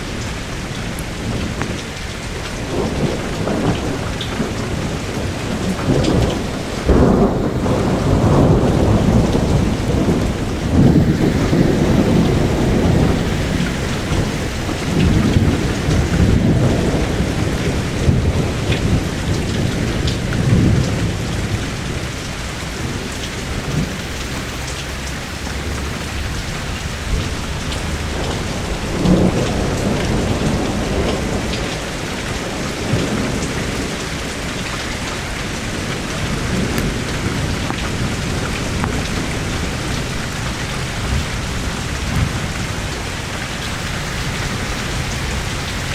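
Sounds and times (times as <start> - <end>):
steady rain: 0.0 - 45.9
thunder rumbling: 2.7 - 31.4, 36.2 - 45.9.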